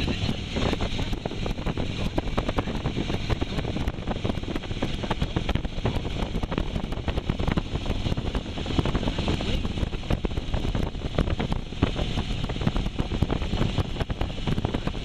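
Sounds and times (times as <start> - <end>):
low vehicle rumble: 0.0 - 15.0
wind buffeting microphone: 0.0 - 15.0.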